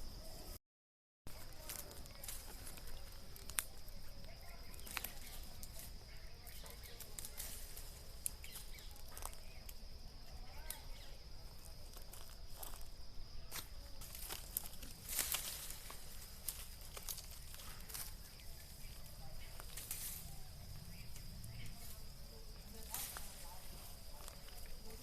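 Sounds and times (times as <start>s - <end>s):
dry twigs and leaves snapping: 1.3s - 12.9s, 13.5s - 25.0s
high insect drone: 1.3s - 25.0s.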